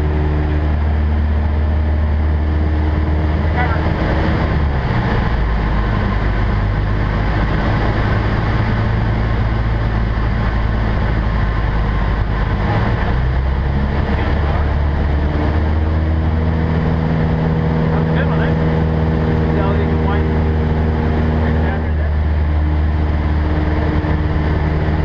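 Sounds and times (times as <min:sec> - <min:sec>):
airplane engine and propeller: 0:00.0 - 0:25.0.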